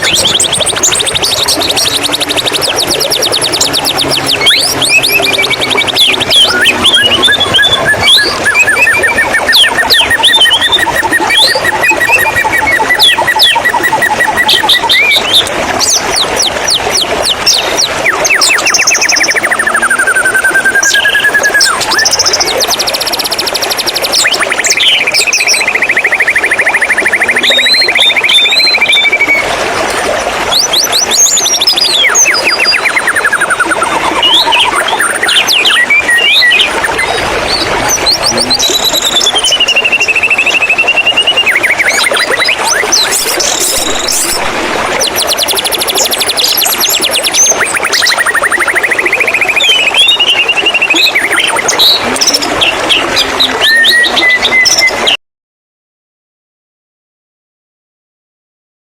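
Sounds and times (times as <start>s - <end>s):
bird singing rapid trills: 0.0s - 29.4s, 30.6s - 44.4s, 45.0s - 55.0s
running water: 0.0s - 55.2s.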